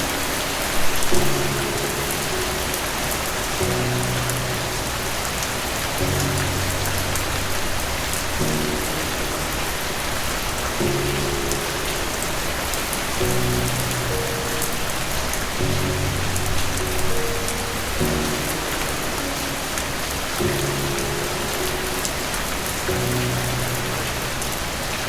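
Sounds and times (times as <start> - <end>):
soft slow piano music: 0.0 - 25.0
steady rain falling: 0.0 - 25.0.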